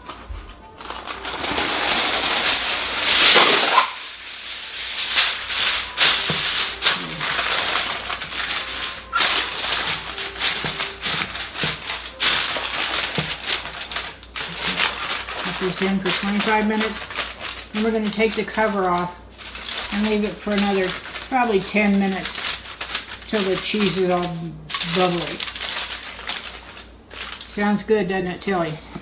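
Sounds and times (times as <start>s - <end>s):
aluminium foil crinkling: 0.0s - 29.0s.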